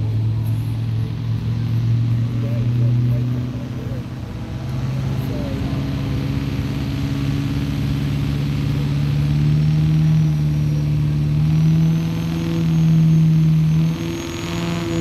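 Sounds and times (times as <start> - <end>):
diesel engine at full throttle: 0.0 - 15.0.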